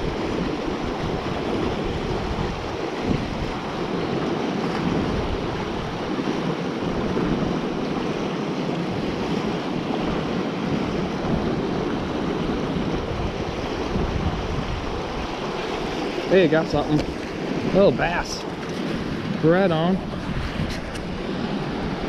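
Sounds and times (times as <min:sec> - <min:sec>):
rushing water: 0:00.0 - 0:22.0
wind buffeting microphone: 0:00.0 - 0:22.0.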